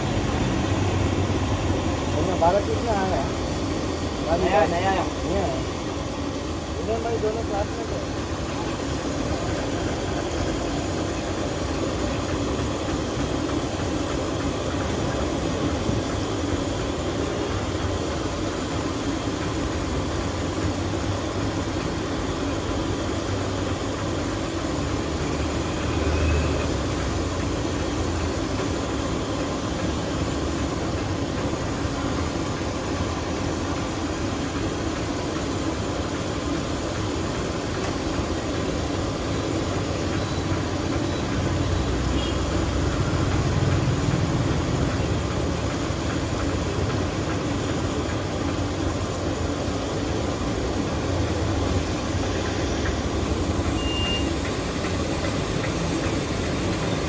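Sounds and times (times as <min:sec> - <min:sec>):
low mechanical rumbling: 0:00.0 - 0:57.0.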